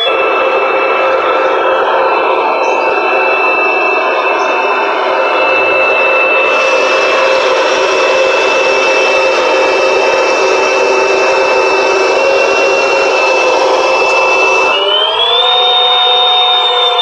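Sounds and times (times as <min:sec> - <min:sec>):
simulated turbine engine whine: 0:00.0 - 0:17.0.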